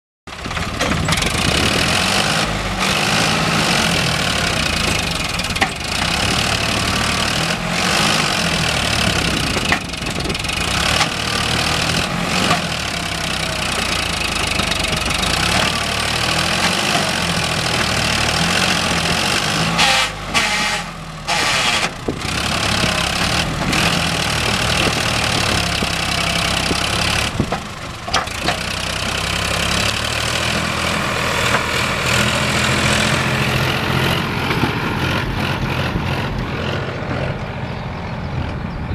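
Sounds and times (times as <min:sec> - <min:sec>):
tractor diesel engine under load: 0:00.3 - 0:38.9.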